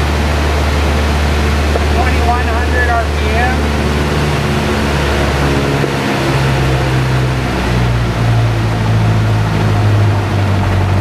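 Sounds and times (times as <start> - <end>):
aircraft engine and propeller: 0.0 - 11.0.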